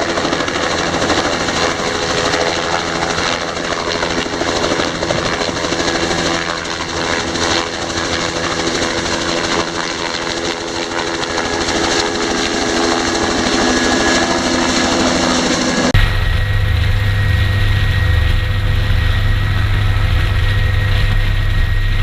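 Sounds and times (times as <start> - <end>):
helicopter engine tones: 0.0 - 22.0
helicopter rotor chop: 0.0 - 22.0.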